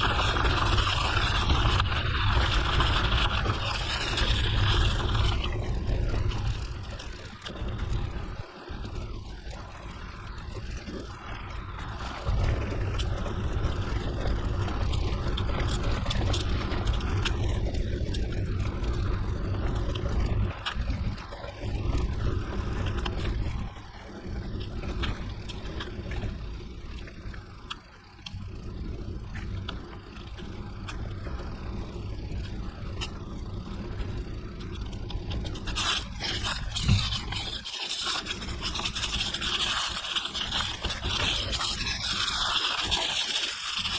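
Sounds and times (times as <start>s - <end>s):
heavy low rumble: 0.0s - 43.1s
wind on microphone: 0.0s - 43.9s.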